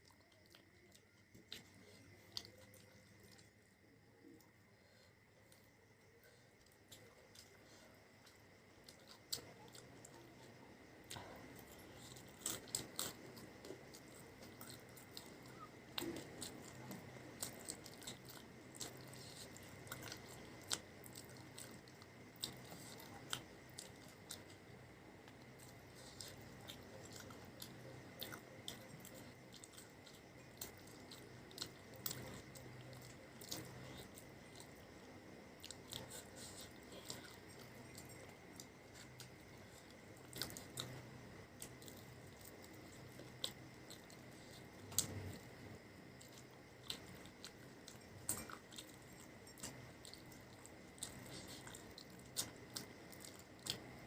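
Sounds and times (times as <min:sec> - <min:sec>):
chewing crunchy snacks: 0:00.0 - 0:54.0.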